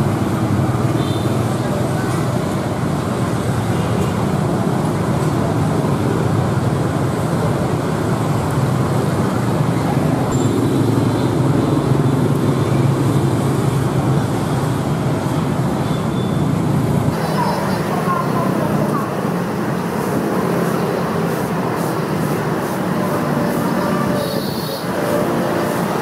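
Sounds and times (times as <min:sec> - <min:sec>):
motorbikes and cars passing: 0:00.0 - 0:26.0.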